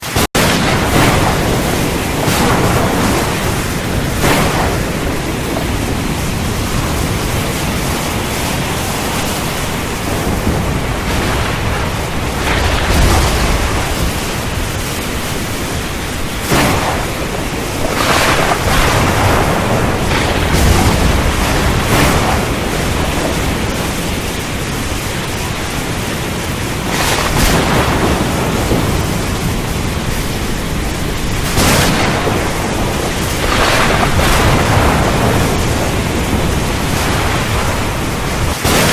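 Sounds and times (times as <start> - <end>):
heavy rain and wind: 0.0 - 38.9
thunder rumble: 0.0 - 38.9.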